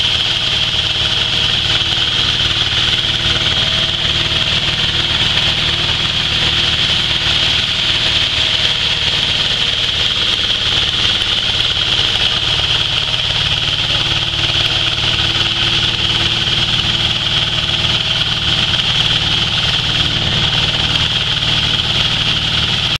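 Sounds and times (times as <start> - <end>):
grain mill grinding drone: 0.0 - 22.9.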